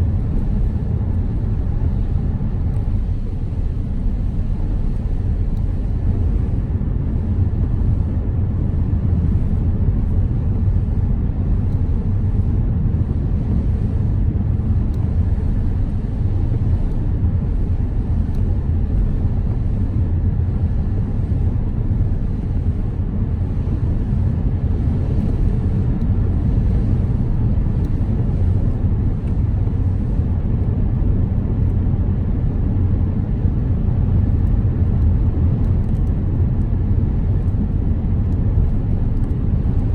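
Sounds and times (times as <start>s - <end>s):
car road and engine drone: 0.0s - 39.9s.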